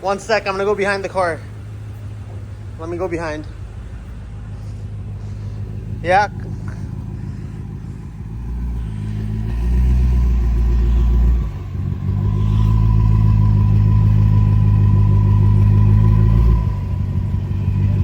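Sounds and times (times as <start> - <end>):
car engine at low revs: 0.0 - 18.0.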